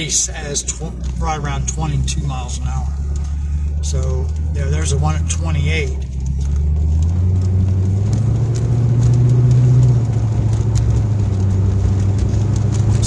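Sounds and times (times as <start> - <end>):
car engine rumble from inside: 0.0 - 13.0.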